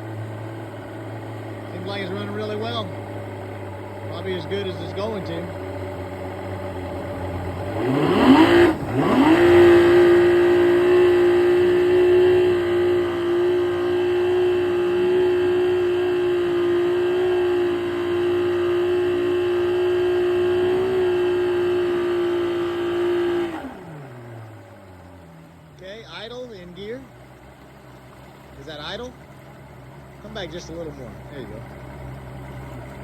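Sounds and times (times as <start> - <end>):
outboard engine revving: 0.0 - 33.0.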